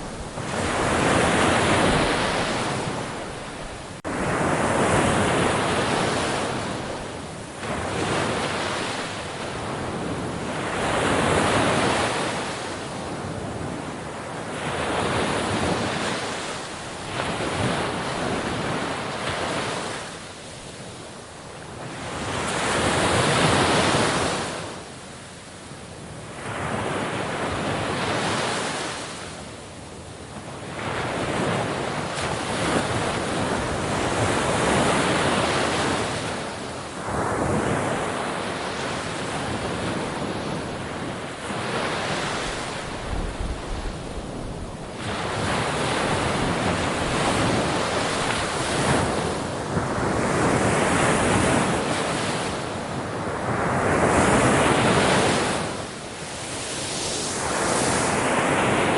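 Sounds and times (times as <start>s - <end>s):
wind noise on microphone: 0.0s - 24.8s, 30.2s - 58.9s
sea waves breaking on shore: 0.0s - 58.9s.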